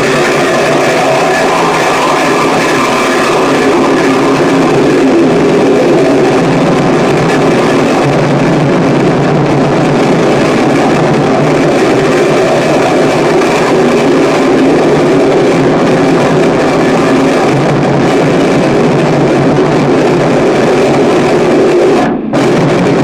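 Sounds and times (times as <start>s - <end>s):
harsh distorted noise music: 0.0s - 23.0s.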